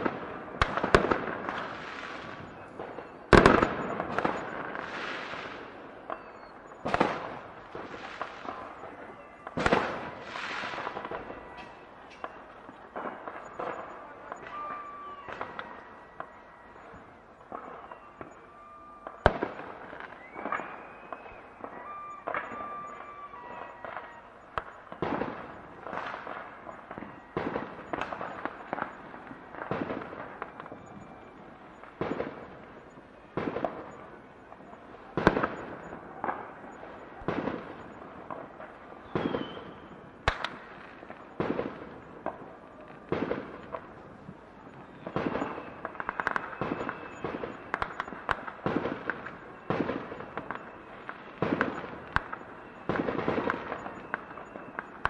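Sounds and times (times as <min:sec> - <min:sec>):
crackling of bursting shells: 0:00.0 - 0:55.0
fireworks bangs: 0:00.0 - 0:55.0.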